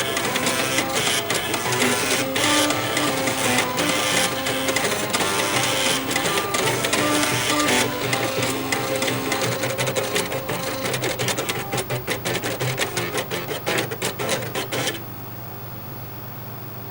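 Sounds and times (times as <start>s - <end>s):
drive heads clicking: 0.0s - 15.1s
floppy drives buzzing a melody: 0.0s - 15.2s.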